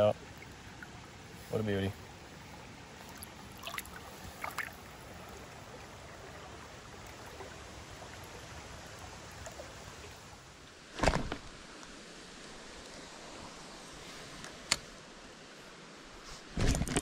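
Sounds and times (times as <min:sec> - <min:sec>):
stream flowing: 0:00.0 - 0:16.3.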